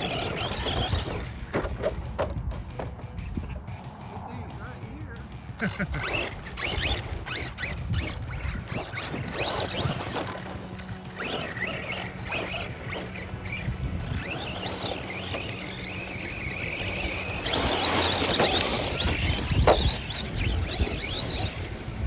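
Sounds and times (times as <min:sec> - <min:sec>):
electric rc car motors whining: 0:00.0 - 0:04.3, 0:05.3 - 0:22.0.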